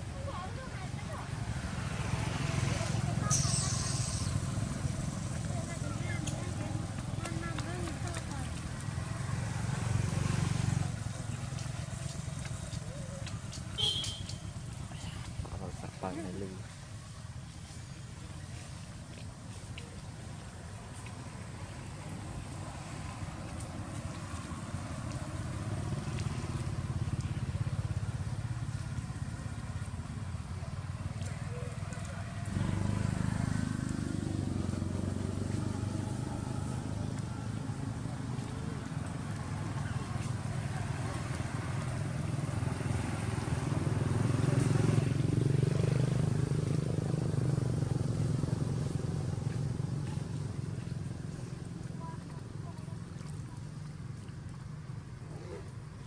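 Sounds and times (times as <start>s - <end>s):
motor engine rumbling: 0.0s - 56.0s.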